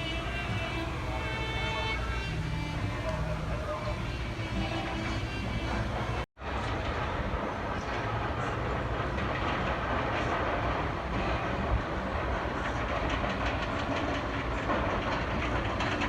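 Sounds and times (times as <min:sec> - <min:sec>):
rhythmic wheel clacking: 0:00.0 - 0:16.0
train rumbling on track: 0:00.0 - 0:16.0.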